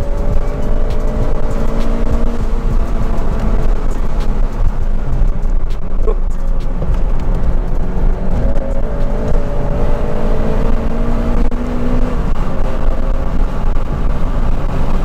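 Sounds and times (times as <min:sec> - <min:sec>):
car engine note: 0:00.0 - 0:15.0
road and tyre rumble: 0:00.0 - 0:15.0.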